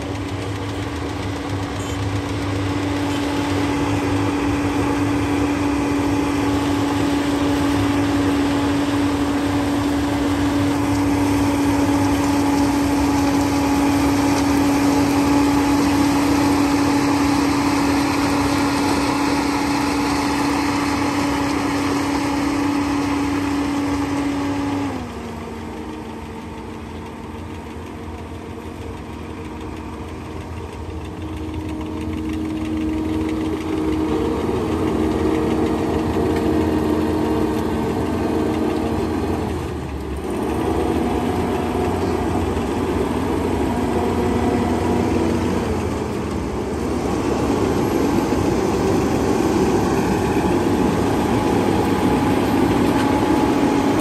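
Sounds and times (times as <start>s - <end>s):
harvester engine running: 0.0s - 54.0s
steady humming tone: 0.0s - 54.0s.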